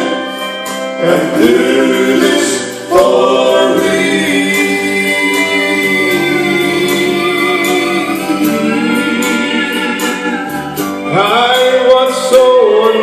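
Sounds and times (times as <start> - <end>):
gospel singing: 0.0 - 13.0
instrumental backing: 0.0 - 13.0.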